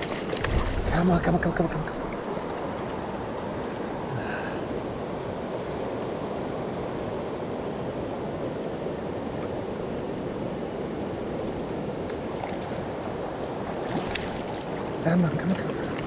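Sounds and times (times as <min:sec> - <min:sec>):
fast river water rushing: 0:00.0 - 0:16.0.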